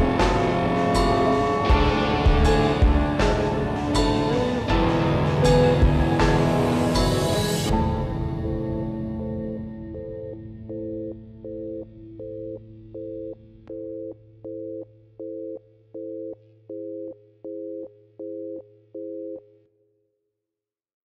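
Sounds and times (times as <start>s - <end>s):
pulsing electronic tone: 0.0s - 19.4s.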